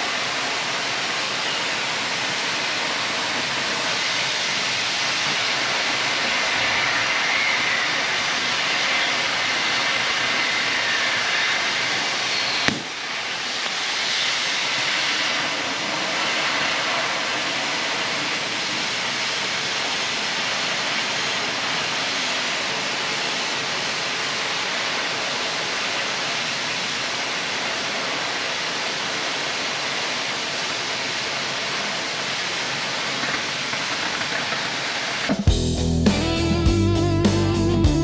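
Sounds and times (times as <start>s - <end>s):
cutting torch jet hissing: 0.0s - 38.0s.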